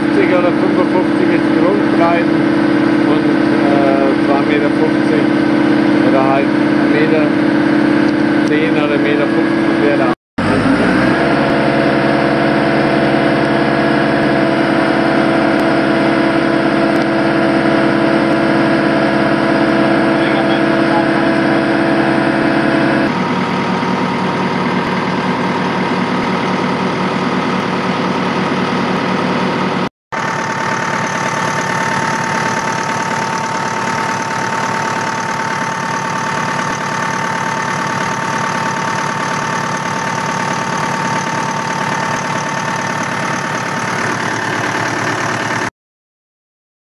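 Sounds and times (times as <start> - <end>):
diesel engine idling: 0.0 - 45.7.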